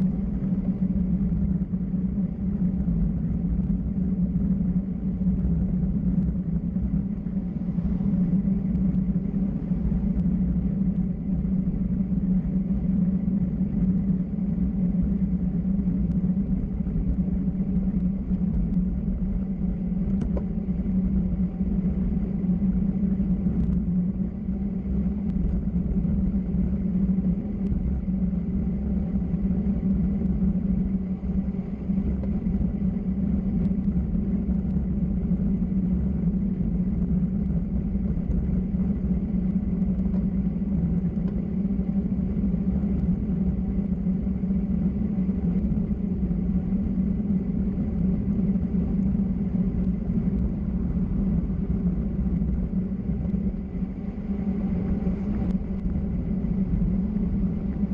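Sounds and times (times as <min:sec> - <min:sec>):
vehicle road and wind rumble: 0:00.0 - 0:57.9.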